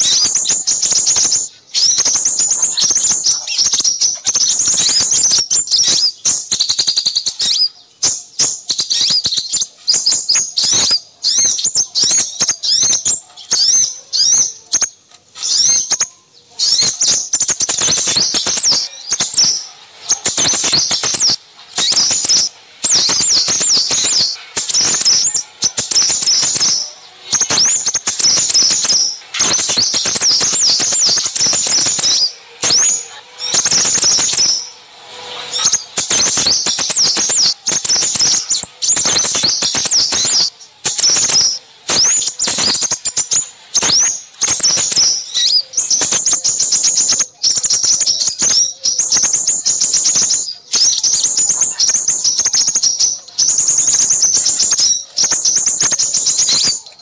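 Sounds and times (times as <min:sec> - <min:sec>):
small songbirds chirping and trilling: 0:00.0 - 0:57.0.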